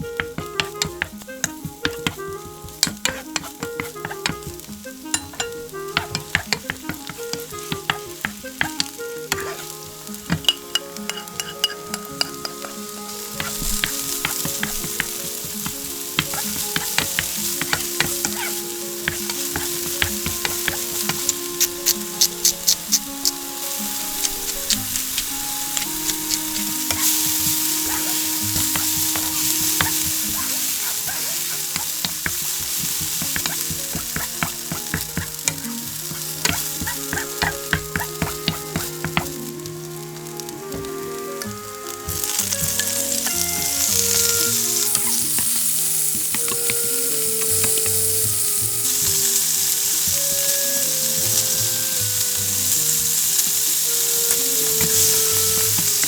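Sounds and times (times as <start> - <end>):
spatula scraping a pan: 0.0 - 39.5, 42.1 - 56.0
rice sizzling in a pan: 0.0 - 56.0
soft background music: 0.0 - 56.0.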